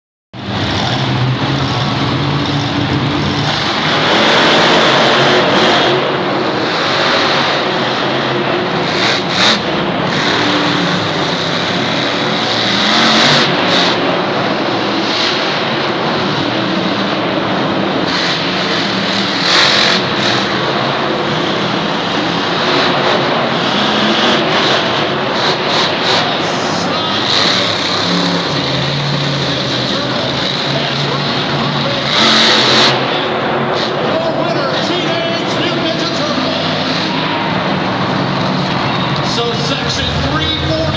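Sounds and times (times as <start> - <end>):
truck engines revving: 0.4 - 40.9.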